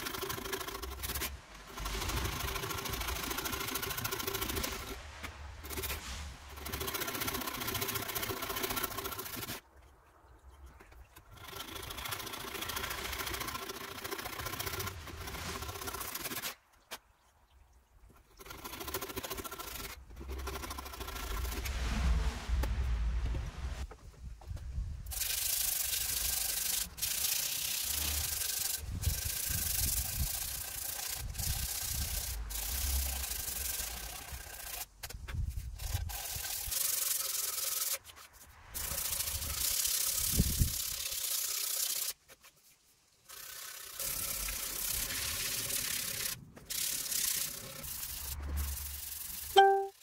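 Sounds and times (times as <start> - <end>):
sandpaper sanding wood: 0.0 - 9.6, 11.3 - 16.6, 18.4 - 21.7, 25.1 - 49.9.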